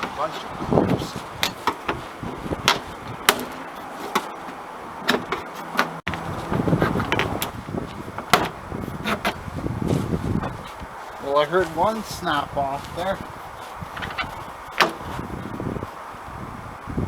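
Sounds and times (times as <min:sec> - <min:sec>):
panel rustling: 0:00.0 - 0:15.4.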